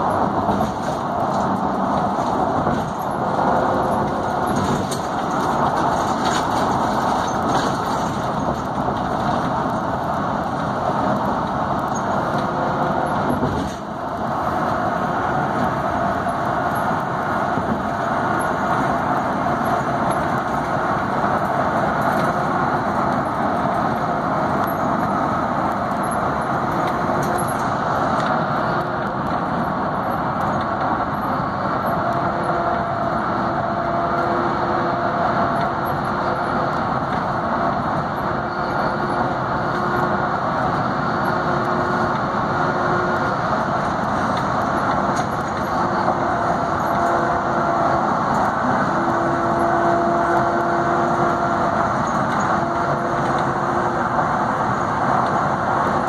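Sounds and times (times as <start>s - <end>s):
road and engine noise in car cabin: 0.0s - 56.0s
tyres on concrete road: 0.0s - 56.0s.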